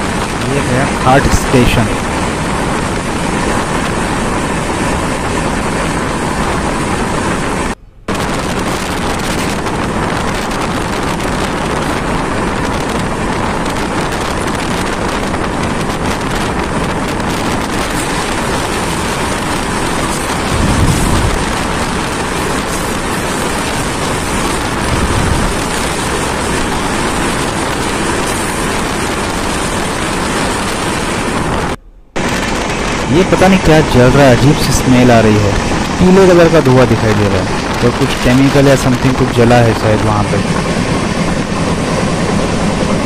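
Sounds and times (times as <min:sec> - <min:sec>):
freight train passing rumble: 0:00.0 - 0:43.0
wind and rail running noise: 0:00.0 - 0:43.0.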